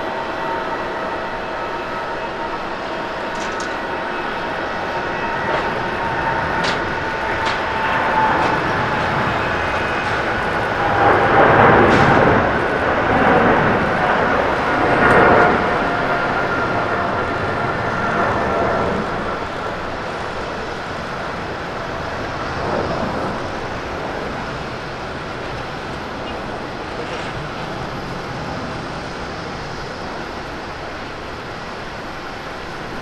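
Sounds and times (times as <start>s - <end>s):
jet airliner rushing noise: 0.0s - 33.0s.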